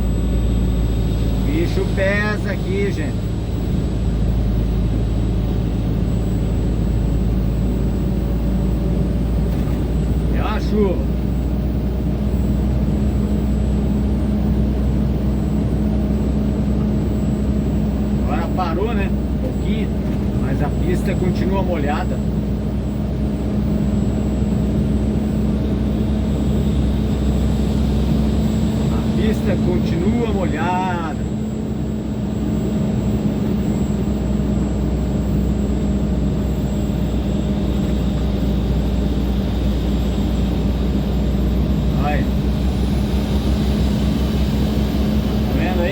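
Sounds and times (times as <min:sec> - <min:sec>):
truck diesel engine rumbling: 0:00.0 - 0:45.9.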